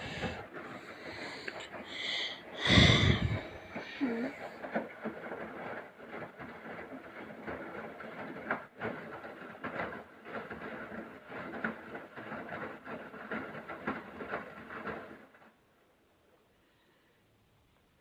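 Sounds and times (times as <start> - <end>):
washing machine drum churning: 0.0 - 15.5.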